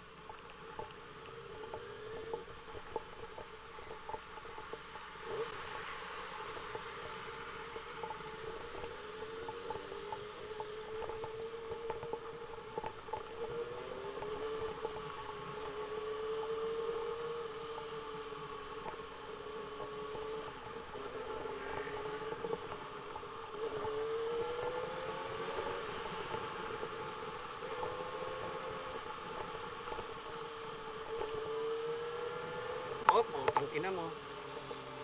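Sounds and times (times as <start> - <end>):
motorcycle engine running: 6.3 - 35.0.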